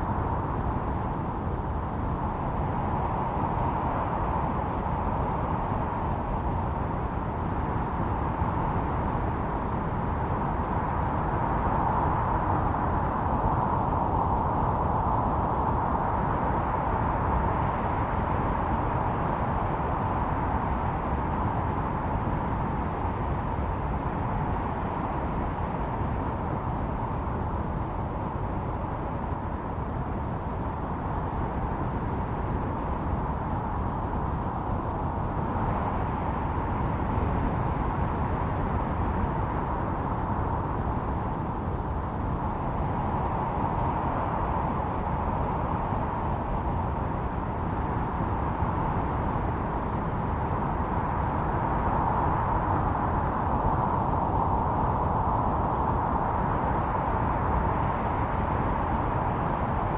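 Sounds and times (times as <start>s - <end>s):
blizzard wind howling: 0.0s - 59.9s.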